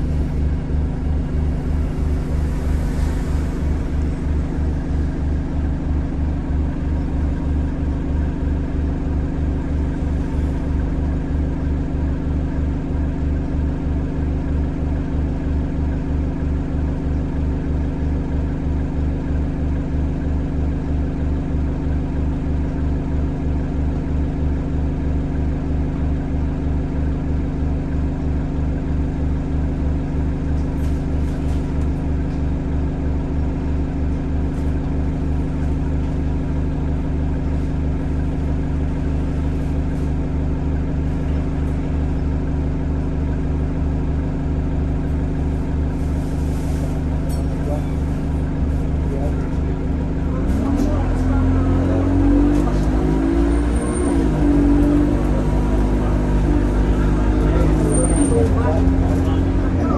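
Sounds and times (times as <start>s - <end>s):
diesel bus engine idling: 0.0s - 59.9s.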